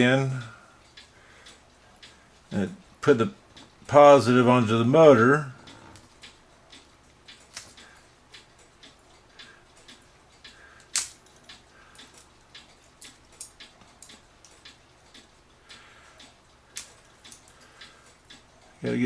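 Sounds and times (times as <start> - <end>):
clock movement ticking: 0.0 - 19.0.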